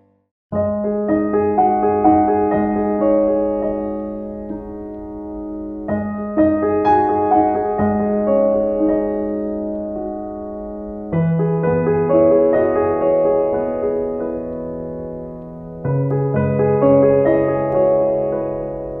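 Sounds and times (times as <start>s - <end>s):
piano background music: 0.0s - 19.0s.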